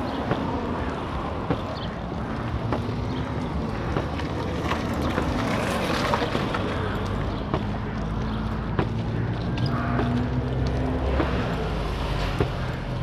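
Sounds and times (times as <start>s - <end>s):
outdoor street noise: 0.0s - 13.0s.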